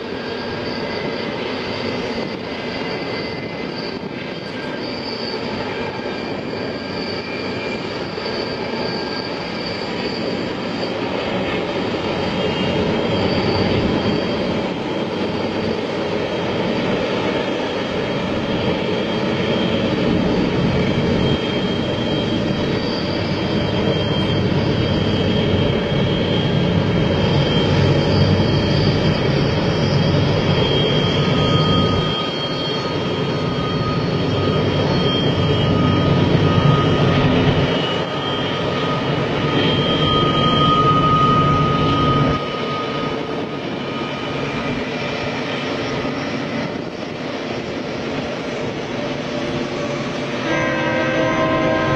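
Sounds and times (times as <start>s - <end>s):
freight train wheels on rails: 0.0s - 51.9s
high whining tones: 0.0s - 51.9s.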